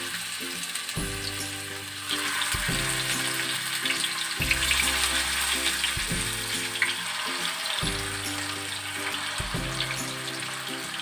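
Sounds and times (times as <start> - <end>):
background music: 0.0 - 11.0
chicken sizzling in oil: 0.0 - 11.0.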